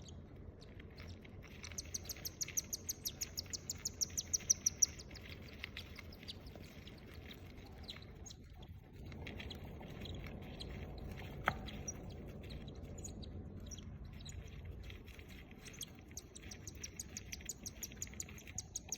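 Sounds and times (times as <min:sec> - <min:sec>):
chicks chirping faintly: 0:00.0 - 0:18.9
low background noise: 0:00.0 - 0:18.9.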